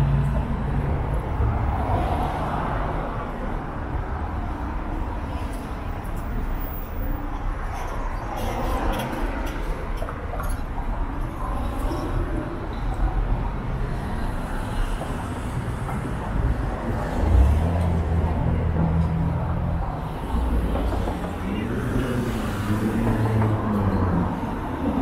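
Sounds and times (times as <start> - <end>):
faint voices of passers-by: 0.0 - 25.0
traffic noise: 0.0 - 25.0.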